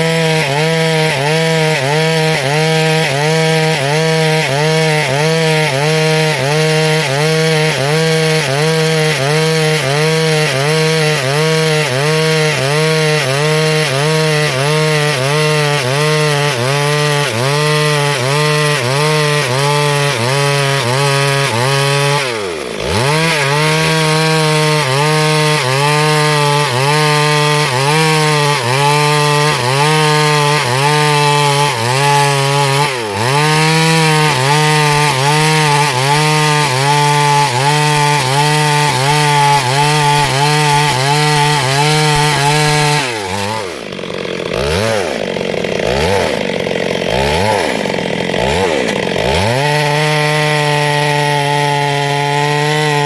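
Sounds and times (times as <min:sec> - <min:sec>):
chainsaw sawing a log: 0:00.0 - 0:53.0.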